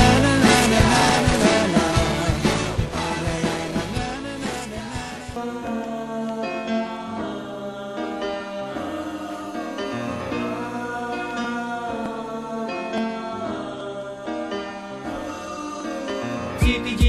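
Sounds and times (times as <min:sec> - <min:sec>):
instrumental pop music chords: 0:00.0 - 0:17.0.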